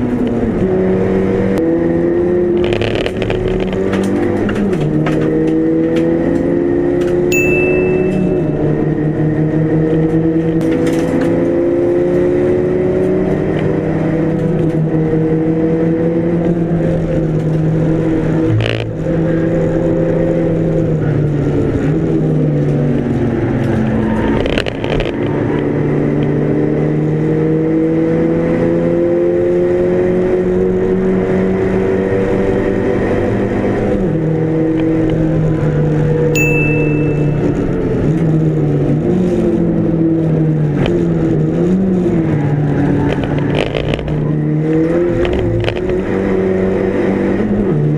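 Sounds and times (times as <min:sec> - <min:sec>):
race car engine under hard load: 0:00.0 - 0:47.9.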